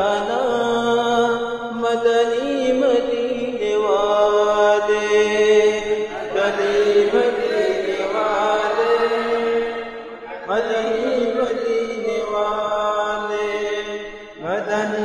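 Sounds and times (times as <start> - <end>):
men singing unaccompanied: 0.0 - 15.0.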